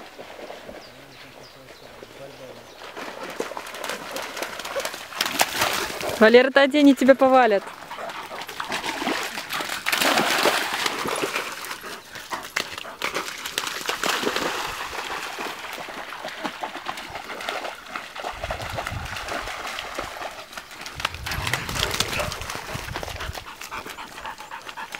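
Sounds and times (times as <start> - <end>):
dogs splashing through water: 0.0 - 24.9.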